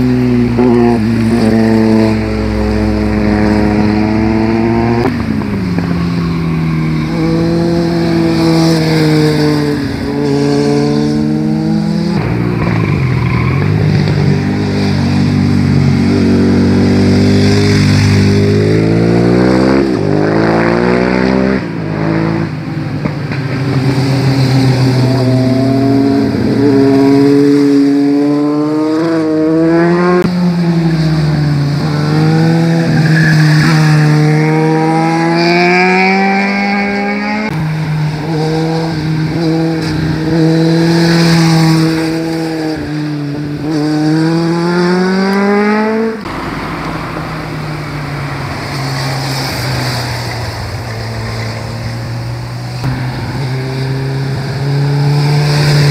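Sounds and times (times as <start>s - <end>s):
motorcycles riding past: 0.0s - 55.9s.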